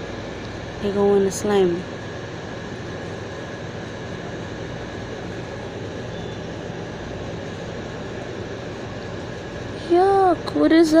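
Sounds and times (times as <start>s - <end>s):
constant even hiss: 0.0s - 11.0s
low hum: 0.0s - 11.0s.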